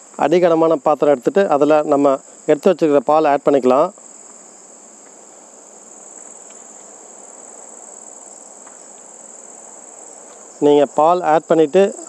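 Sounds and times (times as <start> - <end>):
crickets trilling: 0.0 - 12.0
faint low hiss: 0.0 - 12.0.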